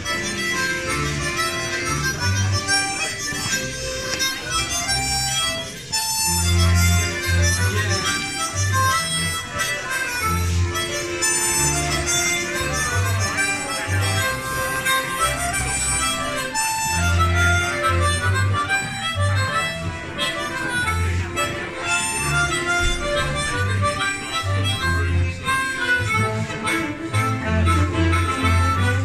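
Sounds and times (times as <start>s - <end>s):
folk band playing dance tune: 0.0s - 29.0s.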